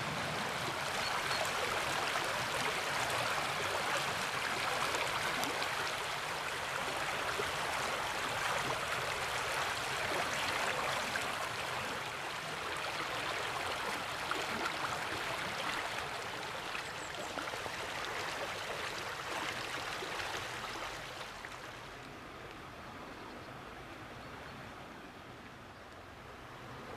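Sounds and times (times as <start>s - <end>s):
water rushing over rapids: 0.0s - 22.0s.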